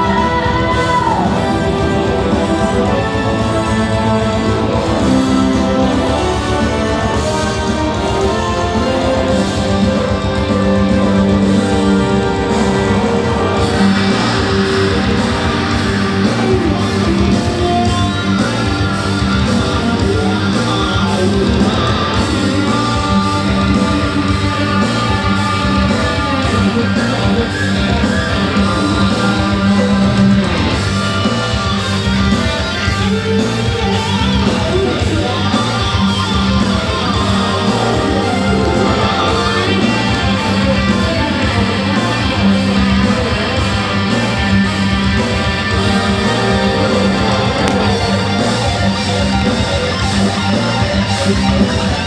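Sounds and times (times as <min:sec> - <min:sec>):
rock music with electric guitar: 0:00.0 - 0:52.0.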